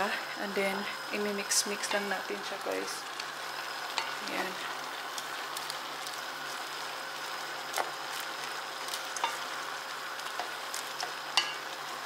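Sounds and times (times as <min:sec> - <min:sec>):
noodles sizzling in a pot: 0:00.0 - 0:12.0.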